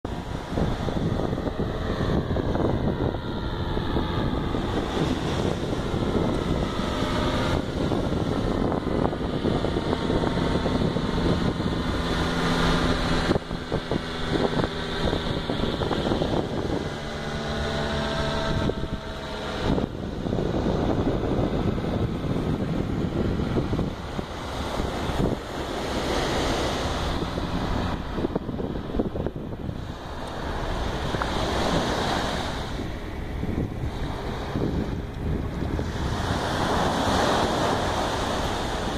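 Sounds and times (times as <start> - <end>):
paramotor engine droning: 0.0 - 38.9
wind buffeting microphone: 0.0 - 38.9.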